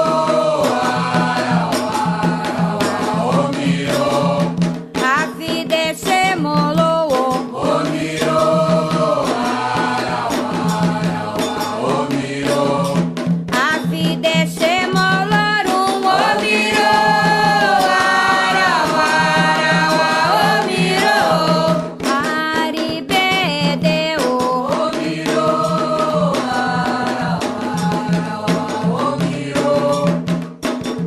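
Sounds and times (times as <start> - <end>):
chorus of voices singing: 0.0 - 22.3, 23.1 - 30.4
drum percussion: 0.0 - 31.0.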